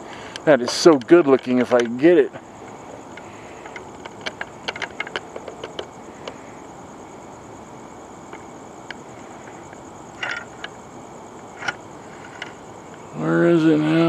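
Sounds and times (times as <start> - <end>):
crickets chirping: 0.0 - 14.0
faint background hum: 0.0 - 14.0.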